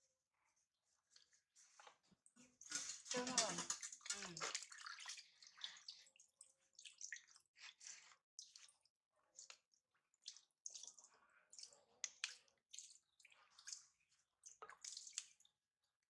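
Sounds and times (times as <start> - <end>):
water splashing in a plastic basin: 1.7 - 15.6.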